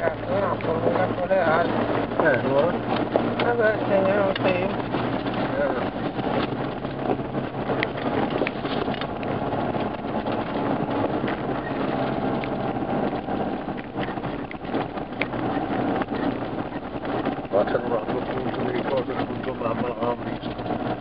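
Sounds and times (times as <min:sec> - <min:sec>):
engine hum: 0:00.0 - 0:21.0
tyre and road noise: 0:00.0 - 0:21.0.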